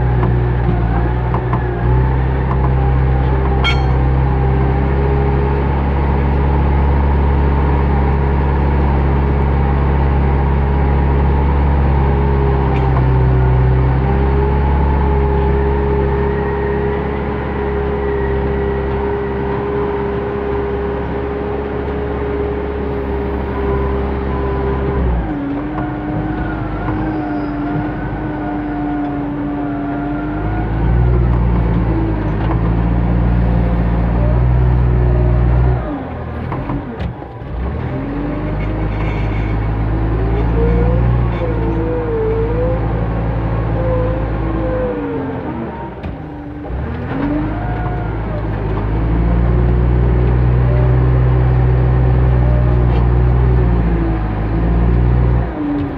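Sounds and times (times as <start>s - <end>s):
diesel engine droning: 0.0s - 55.9s.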